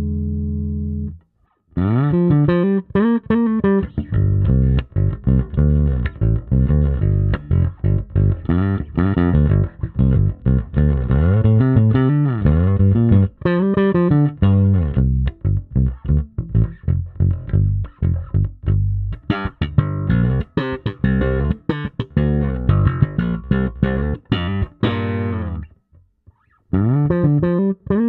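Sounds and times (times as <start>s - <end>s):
electric bass plucked notes: 0.0s - 28.0s.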